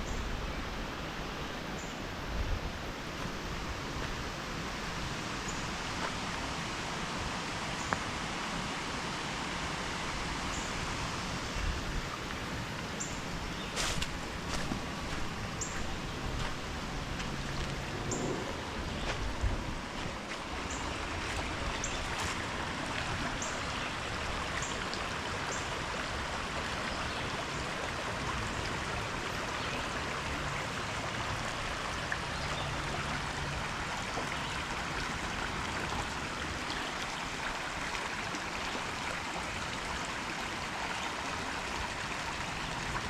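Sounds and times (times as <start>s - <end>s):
small stream running: 0.0s - 43.0s.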